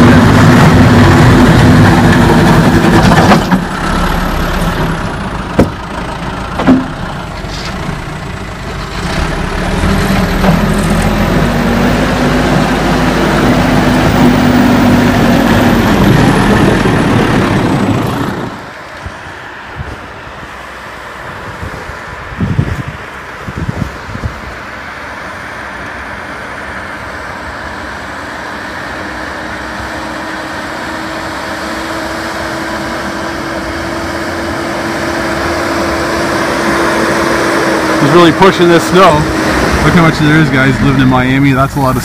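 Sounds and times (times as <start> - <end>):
diesel engine running under load: 0.0 - 42.0.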